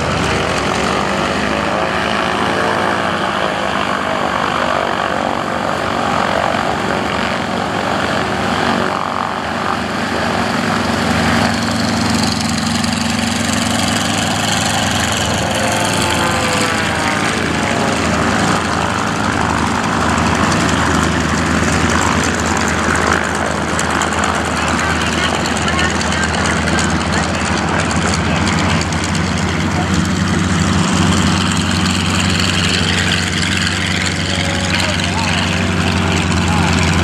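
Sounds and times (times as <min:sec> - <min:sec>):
propeller plane engine drone: 0:00.0 - 0:37.0.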